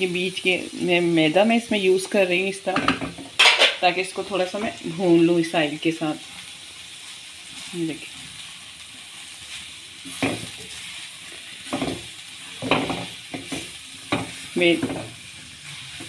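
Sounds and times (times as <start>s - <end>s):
frying sizzle in oil: 0.0s - 16.0s.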